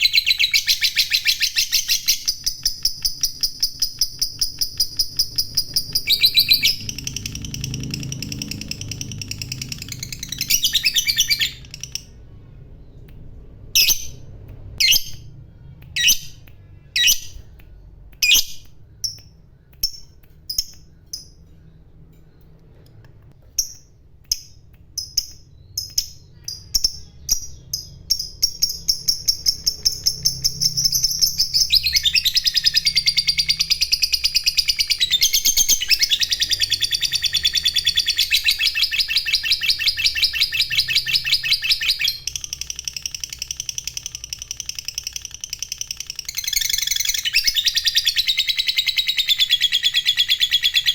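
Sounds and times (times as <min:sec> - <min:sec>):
lovebird chirping and trilling: 0:00.0 - 0:50.9.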